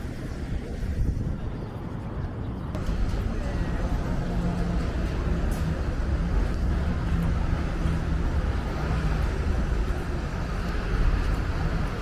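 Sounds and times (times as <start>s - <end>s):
vehicle rumble and hum: 0.0s - 12.0s.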